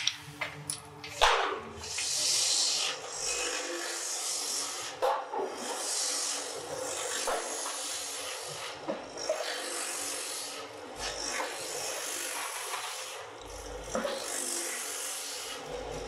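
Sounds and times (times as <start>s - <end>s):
grinding machine rasping hiss: 1.8s - 16.0s.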